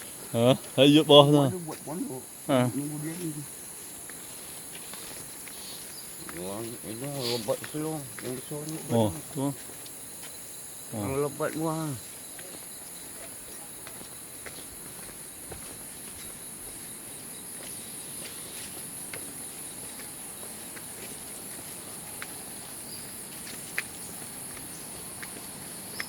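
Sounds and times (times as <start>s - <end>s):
insect chorus chirring: 0.0s - 26.0s.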